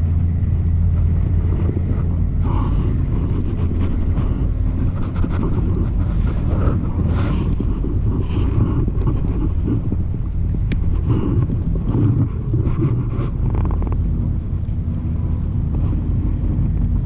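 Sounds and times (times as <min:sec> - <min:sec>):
low engine drone: 0:00.0 - 0:17.0
rushing noise: 0:00.0 - 0:17.0.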